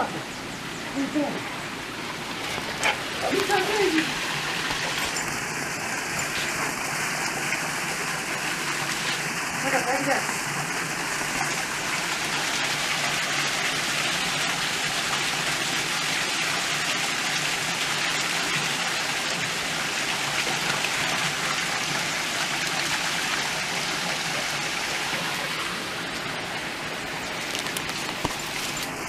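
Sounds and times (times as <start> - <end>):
stream rushing over stones: 1.0 - 29.0.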